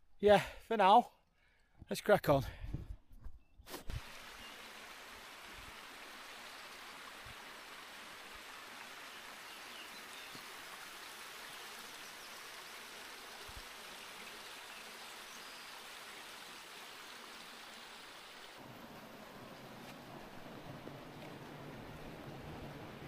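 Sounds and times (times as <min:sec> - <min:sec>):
running water hiss: 0:03.7 - 0:23.0.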